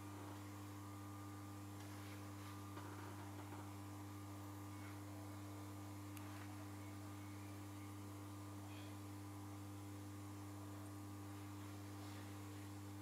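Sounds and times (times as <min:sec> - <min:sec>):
train electrical hum: 0:00.0 - 0:13.0.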